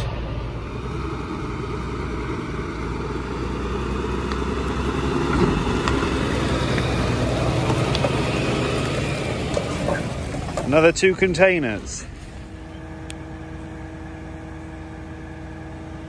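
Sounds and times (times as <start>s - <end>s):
lorry diesel engine passing: 0.0s - 16.0s.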